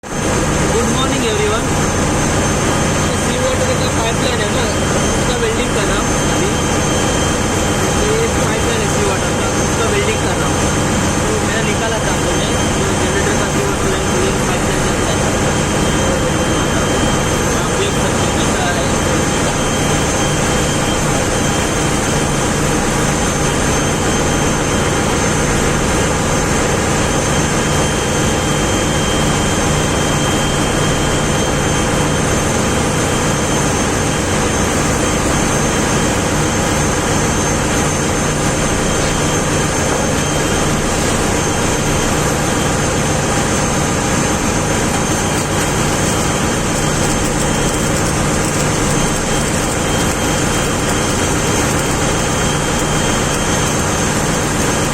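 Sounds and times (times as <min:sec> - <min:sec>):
ship's machinery droning: 0:00.0 - 0:54.9
constant hums: 0:00.1 - 0:54.9.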